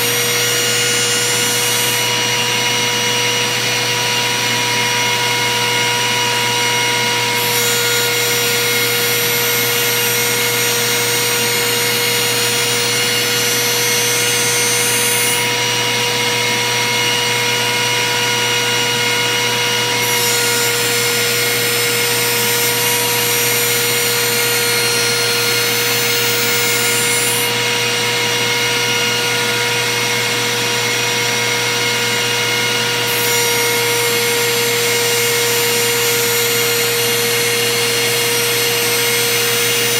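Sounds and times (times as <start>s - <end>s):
router whining: 0.0s - 39.9s.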